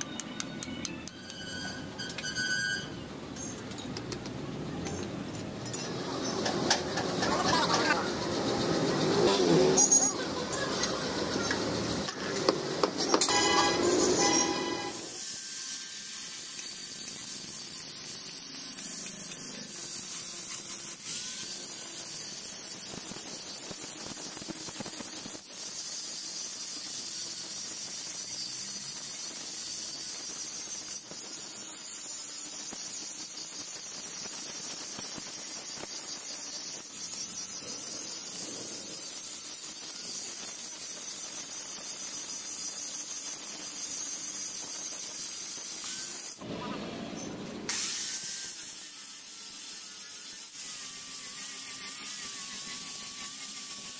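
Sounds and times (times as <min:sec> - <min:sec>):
angle grinder grinding steel: 0:04.9 - 0:46.5, 0:47.2 - 0:53.9.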